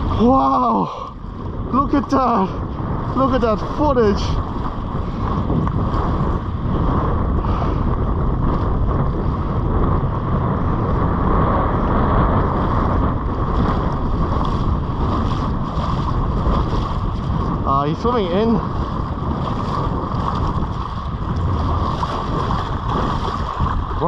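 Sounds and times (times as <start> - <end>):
surf washing on beach: 0.0 - 24.0
wind buffeting microphone: 0.0 - 24.0.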